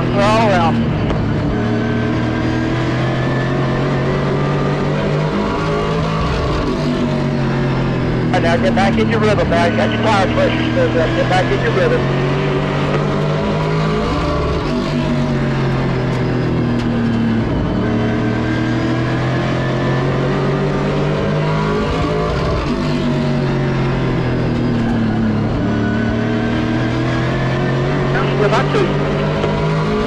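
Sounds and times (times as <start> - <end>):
race car engine: 0.0 - 30.0.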